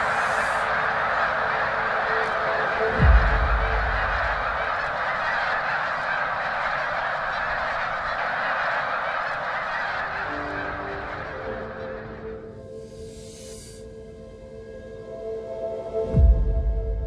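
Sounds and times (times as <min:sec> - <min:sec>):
flock of geese honking: 0:00.0 - 0:13.8.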